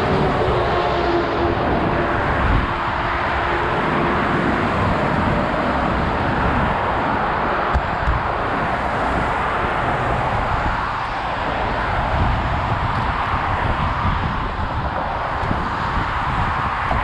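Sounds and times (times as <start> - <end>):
fast motorway traffic roar: 0.0 - 17.0
passing vehicle engine: 0.0 - 17.0.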